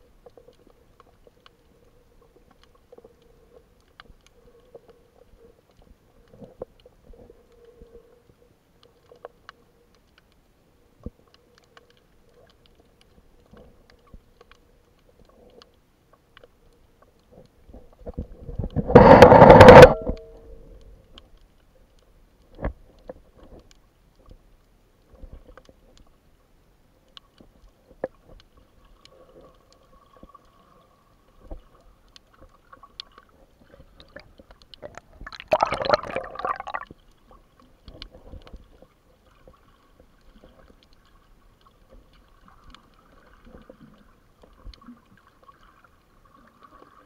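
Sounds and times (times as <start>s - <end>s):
faint underwater clicks and knocks: 0.0s - 47.0s.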